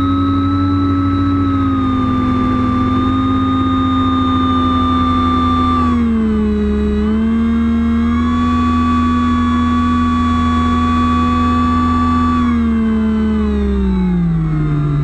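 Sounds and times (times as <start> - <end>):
jet ski engine whining: 0.0 - 15.0.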